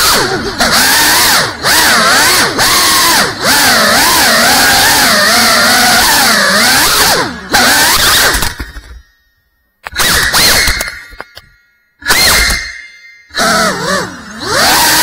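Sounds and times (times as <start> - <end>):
drone propellers whining: 0.0 - 9.0, 9.8 - 15.0.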